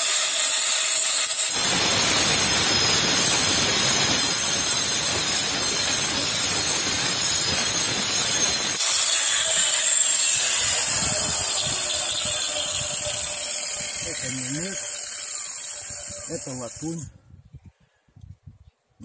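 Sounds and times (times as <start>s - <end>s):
angle grinder cutting metal rod: 0.0s - 17.1s
grinder whining freely: 0.0s - 17.1s.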